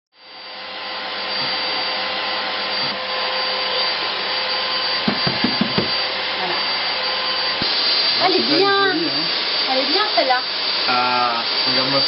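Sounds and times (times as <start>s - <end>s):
electric blower motor whirring: 0.2s - 12.0s.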